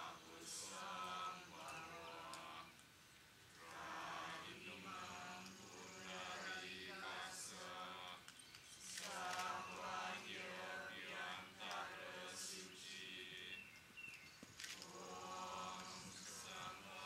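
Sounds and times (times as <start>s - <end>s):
person chanting prayer mantras: 0.0s - 2.8s, 3.6s - 8.3s, 9.0s - 13.7s, 14.8s - 17.0s.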